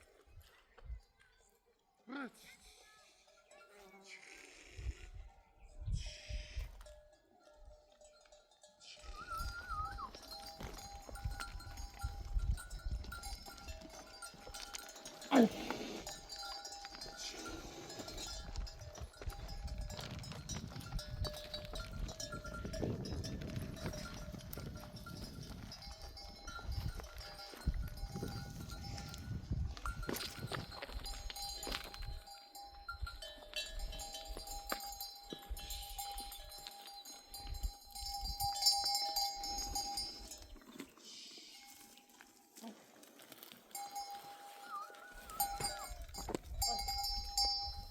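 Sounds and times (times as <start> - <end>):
livestock bells ringing: 5.6 - 40.6, 43.6 - 47.9
sheep hooves pattering: 6.6 - 47.9.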